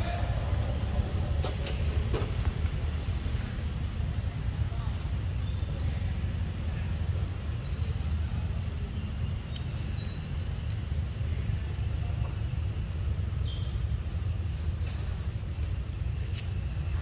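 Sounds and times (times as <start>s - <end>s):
insect drone: 0.0s - 17.0s
low steady rumble: 0.0s - 17.0s.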